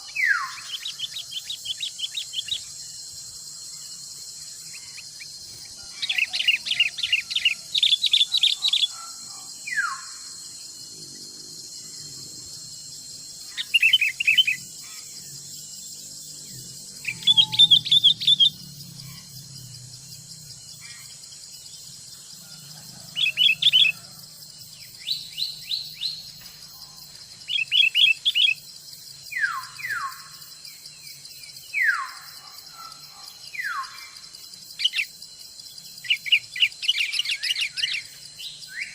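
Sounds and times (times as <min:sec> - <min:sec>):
high-pitched insect drone: 0:00.0 - 0:38.9
songbirds chirping: 0:00.0 - 0:38.9.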